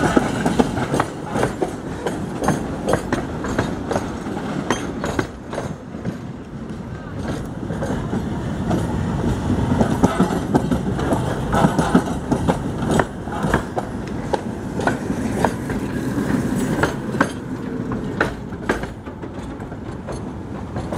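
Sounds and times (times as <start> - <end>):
tram rumbling past: 0.0 - 20.9
wheels clacking over track: 0.0 - 20.9.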